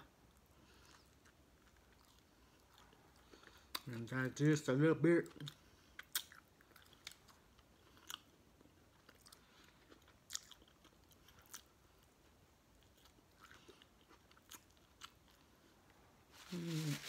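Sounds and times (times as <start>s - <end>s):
chewing food: 0.3s - 4.0s, 5.2s - 15.8s.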